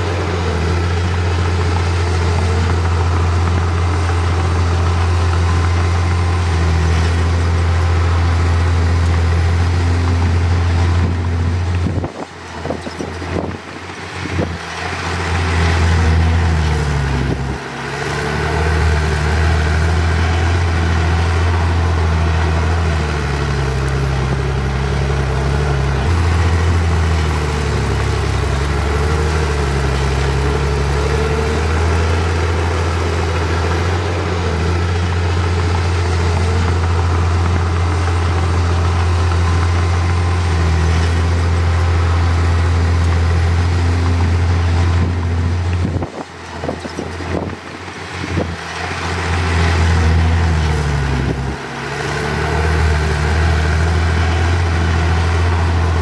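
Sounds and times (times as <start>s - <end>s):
heavy diesel engine humming: 0.0s - 56.0s.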